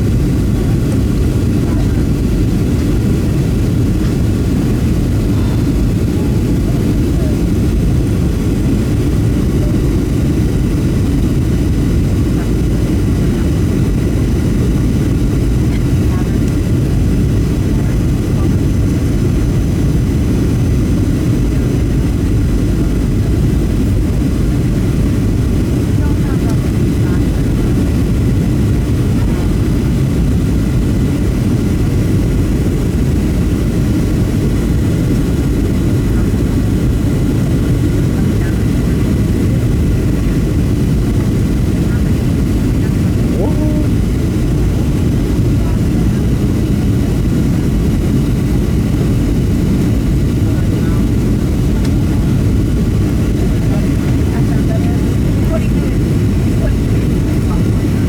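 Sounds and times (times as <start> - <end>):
airplane cabin engine roar: 0.0 - 58.0.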